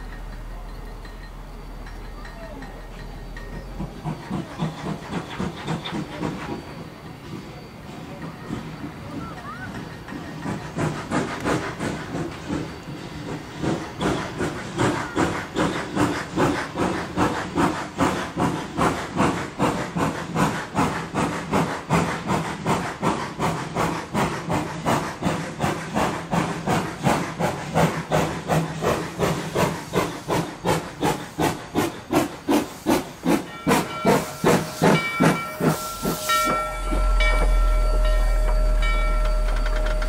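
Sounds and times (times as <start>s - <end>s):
steam locomotive exhaust chuffs: 0.0s - 40.0s.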